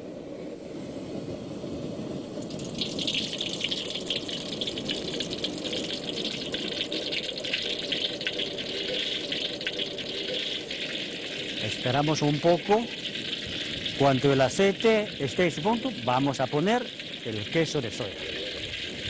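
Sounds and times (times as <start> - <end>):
oil sizzling in a wok: 2.4 - 19.0.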